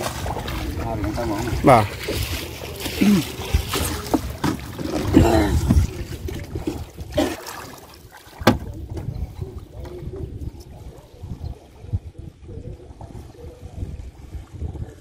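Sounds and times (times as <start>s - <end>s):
river water sloshing and splashing: 0.0s - 15.0s.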